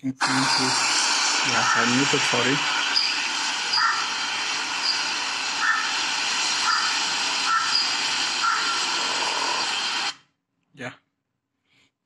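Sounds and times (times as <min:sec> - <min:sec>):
loud steady hiss: 0:00.0 - 0:10.2.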